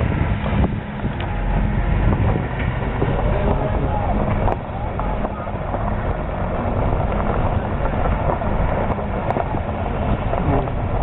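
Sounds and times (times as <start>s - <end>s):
combine harvester rumbling: 0.0s - 11.0s.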